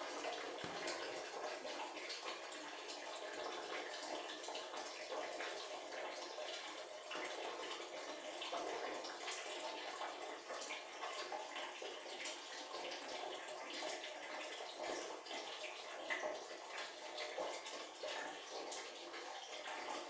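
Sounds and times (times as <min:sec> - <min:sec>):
water running and splashing: 0:00.0 - 0:20.0.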